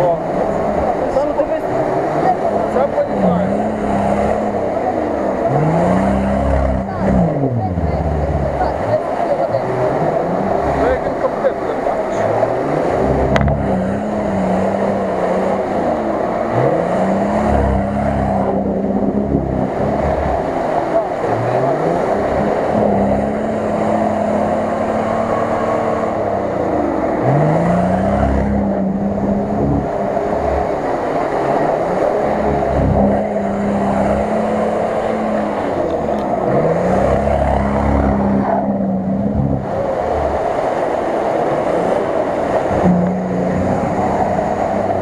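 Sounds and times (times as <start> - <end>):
suv engine revving: 0.0 - 45.0
tyres churning mud and water: 0.0 - 45.0.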